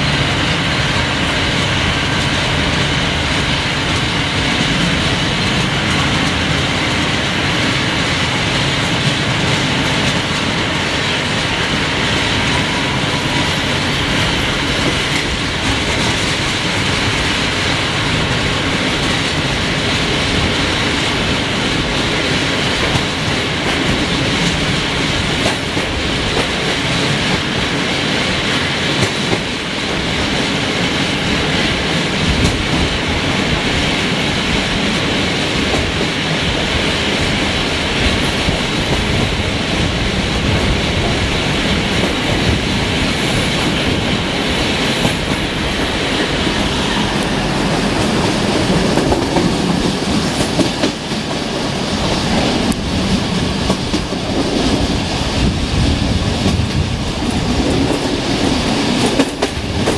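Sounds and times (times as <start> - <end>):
train wheels rumbling on rails: 0.0 - 59.9
clacks over rail joints: 1.4 - 55.6, 56.2 - 59.9.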